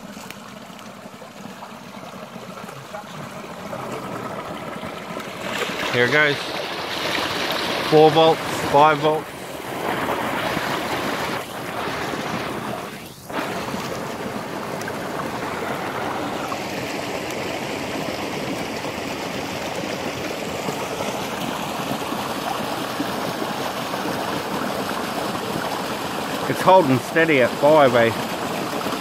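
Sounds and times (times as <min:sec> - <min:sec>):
water pouring onto water wheel: 0:00.0 - 0:29.0.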